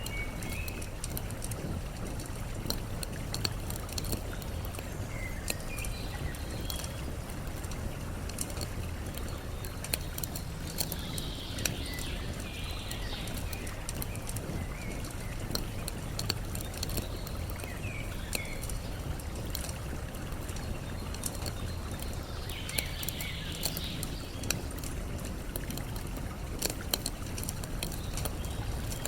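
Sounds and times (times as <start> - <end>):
campfire crackling: 0.0 - 29.0
flowing water: 0.0 - 29.0.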